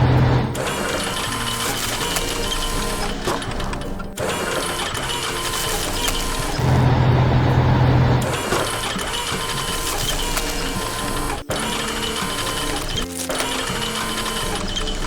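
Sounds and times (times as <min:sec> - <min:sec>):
cartoon background music: 0:00.0 - 0:15.0
low machine hum: 0:00.0 - 0:15.0
machine clicking and whirring: 0:00.0 - 0:15.0.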